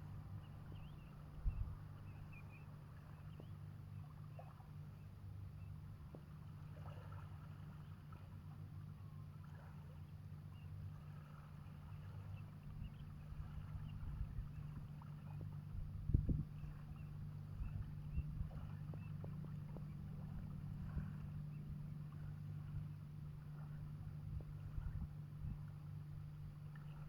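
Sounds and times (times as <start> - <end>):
shorebirds chirping: 0.0 - 5.9, 6.8 - 24.9
steady low hum: 0.0 - 27.0.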